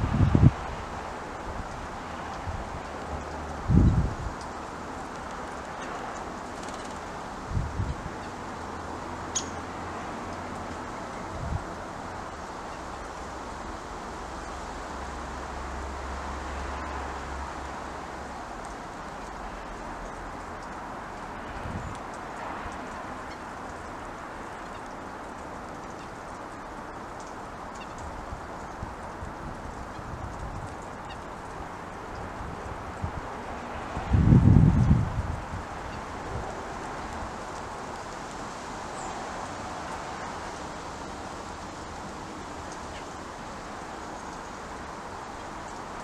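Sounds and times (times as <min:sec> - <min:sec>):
outdoor background hiss: 0:00.0 - 0:46.0.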